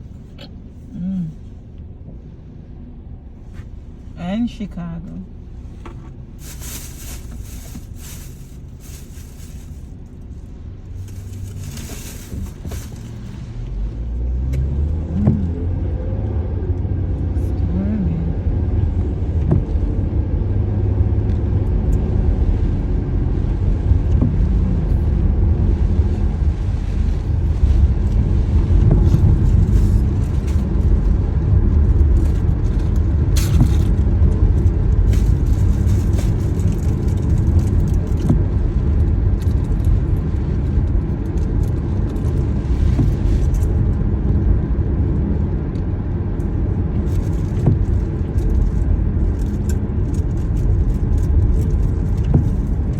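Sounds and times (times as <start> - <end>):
car road and engine rumble: 0.0 - 52.9.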